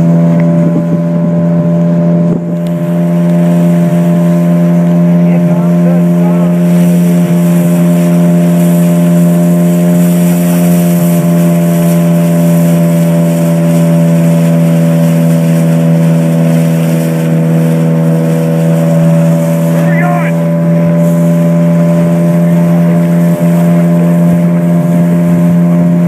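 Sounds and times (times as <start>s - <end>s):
boat motor humming: 0.0s - 26.0s
water rushing: 0.0s - 26.0s.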